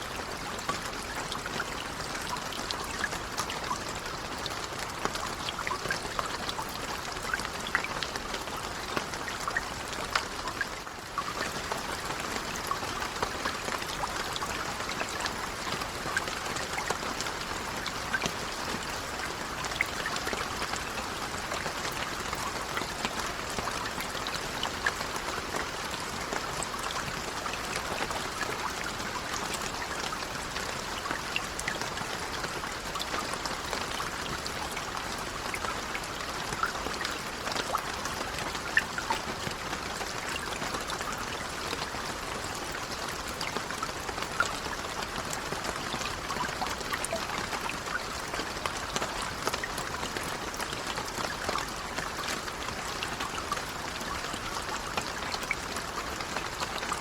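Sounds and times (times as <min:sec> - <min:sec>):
raindrops striking a surface: 0:00.0 - 0:57.0.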